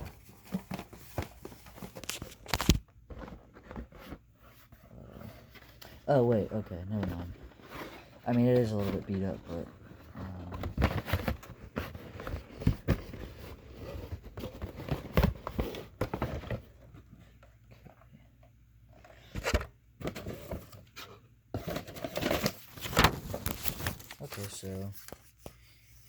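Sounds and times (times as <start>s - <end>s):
cardboard rustling and scraping: 0.0s - 18.1s, 18.8s - 26.0s.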